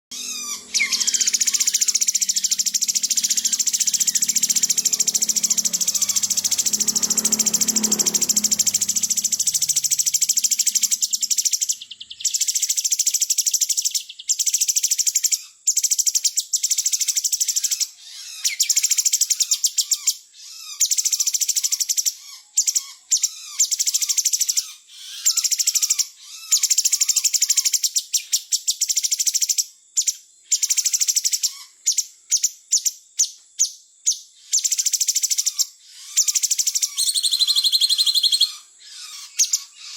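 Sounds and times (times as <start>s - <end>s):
songbird fast chattering trill: 0.1s - 32.9s, 34.1s - 39.9s.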